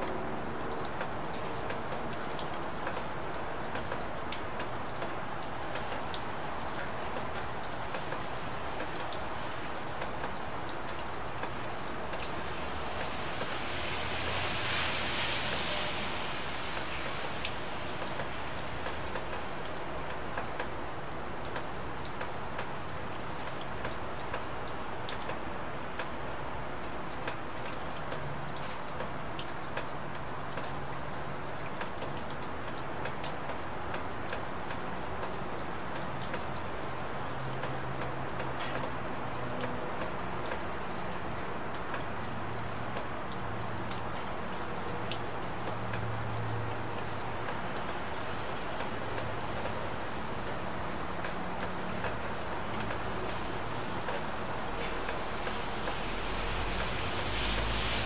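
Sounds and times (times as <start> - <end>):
raindrops ticking on surfaces: 0.0 - 58.0
steady rain falling: 0.0 - 58.0.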